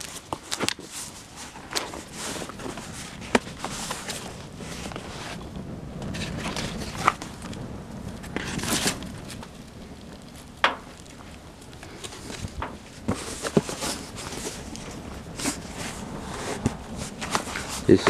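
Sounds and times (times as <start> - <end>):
burning wood pops: 0.0 - 18.0
wood fire crackling: 0.0 - 18.0.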